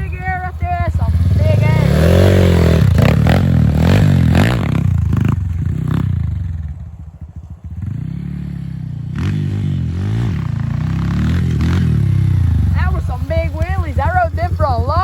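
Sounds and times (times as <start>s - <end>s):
dirt bike engine revving: 0.0s - 6.9s, 7.7s - 15.0s.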